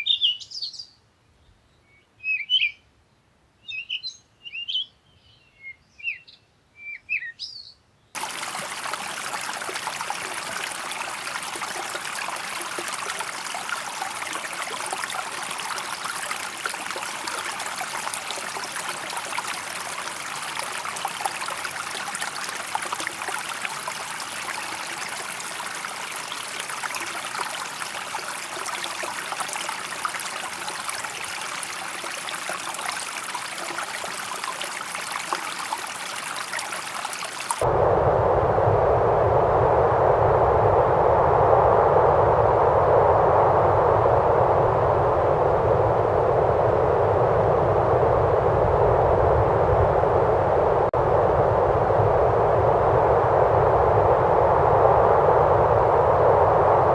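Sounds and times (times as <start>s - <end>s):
flowing stream: 8.2s - 56.9s.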